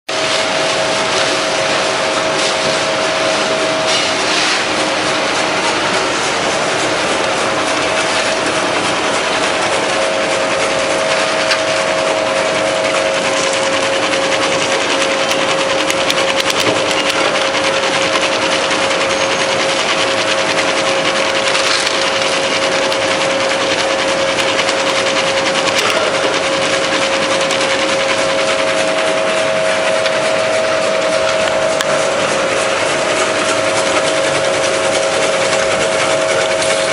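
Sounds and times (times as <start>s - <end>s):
motor whine: 0.1s - 36.9s
slicing machine cutting nuts: 0.1s - 36.9s.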